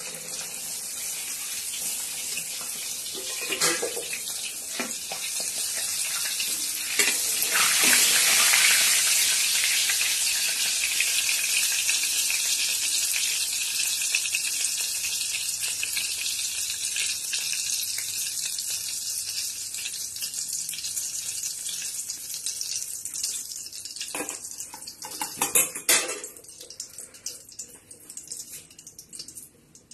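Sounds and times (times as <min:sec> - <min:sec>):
cheese sizzling in hot oil: 0:00.0 - 0:29.9.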